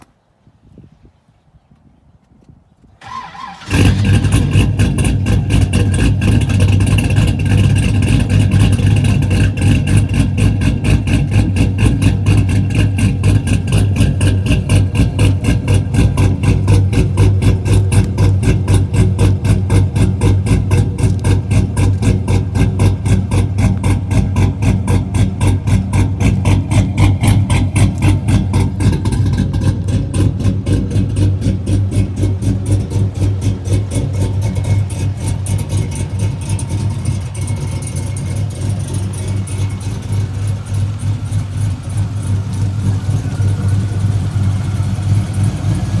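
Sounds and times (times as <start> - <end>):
car engine idling: 3.0 - 46.0.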